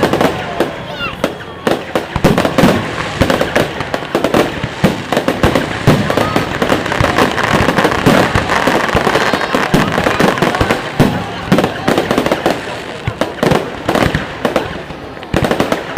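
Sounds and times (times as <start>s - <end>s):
fireworks bangs and crackling: 0.0s - 15.9s.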